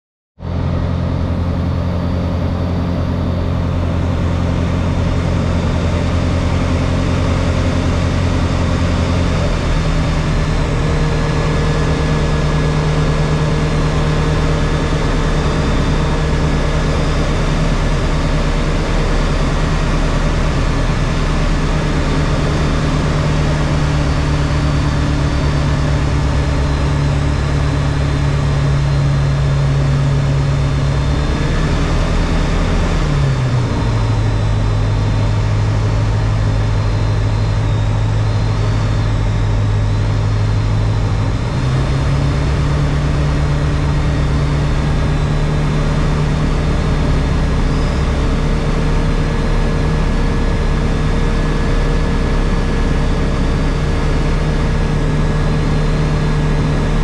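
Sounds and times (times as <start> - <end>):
aircraft engine and propeller droning: 0.4 - 57.0.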